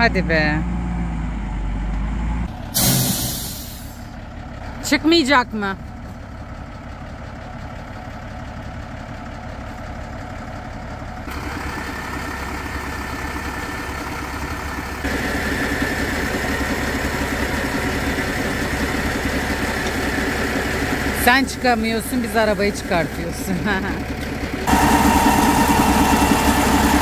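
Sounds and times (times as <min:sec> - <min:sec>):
truck diesel engine under load: 0:00.0 - 0:27.0.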